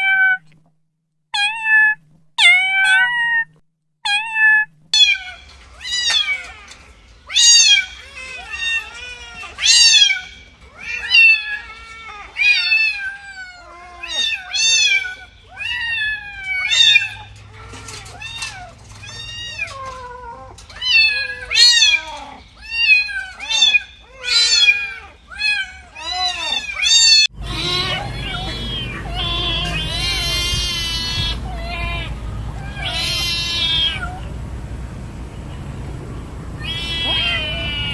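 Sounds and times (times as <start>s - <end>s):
kitten meowing: 1.4s - 3.5s, 4.1s - 6.7s, 7.3s - 34.3s, 36.6s - 37.9s.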